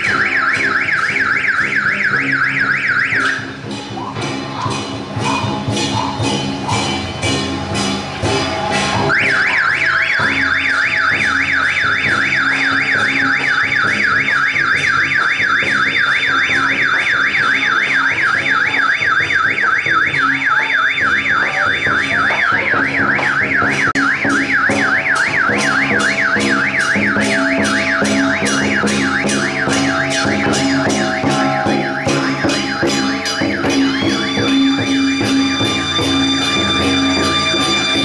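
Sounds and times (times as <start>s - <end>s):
electronic warbling siren: 0.0s - 4.2s, 8.7s - 38.0s.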